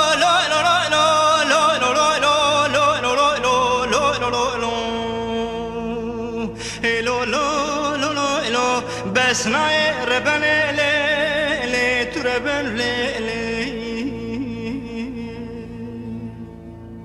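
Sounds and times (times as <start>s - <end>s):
man singing folk song: 0.0s - 16.3s
low drone: 0.0s - 17.0s.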